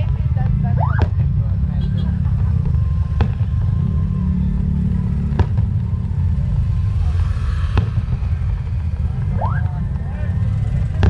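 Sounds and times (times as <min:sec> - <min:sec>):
firework bangs: 0:00.0 - 0:03.9, 0:05.0 - 0:11.0
low rumble: 0:00.0 - 0:11.0.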